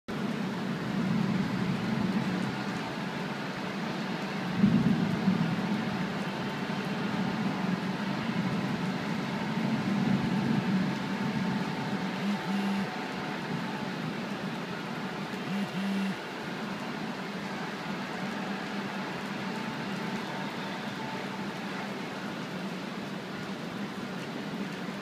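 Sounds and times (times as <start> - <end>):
city traffic hum: 0.1 - 25.0.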